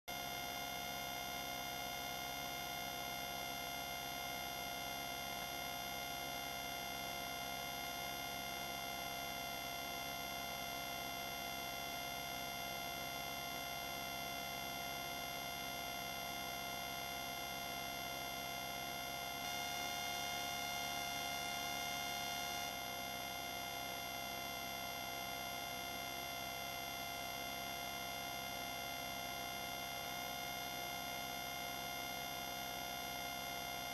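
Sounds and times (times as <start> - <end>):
electronic hum of fixed tones: 0.1 - 33.9.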